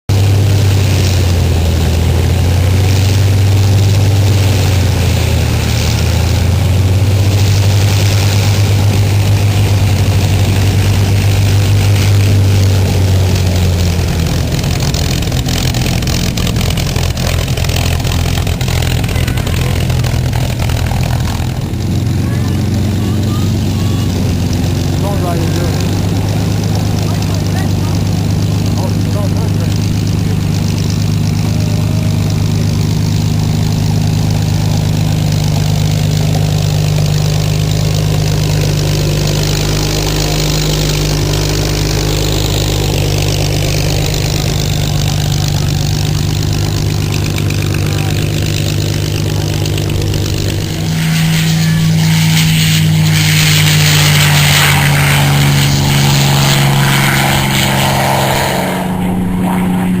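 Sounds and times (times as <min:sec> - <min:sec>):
propeller aircraft engine running: 0:00.0 - 1:00.0.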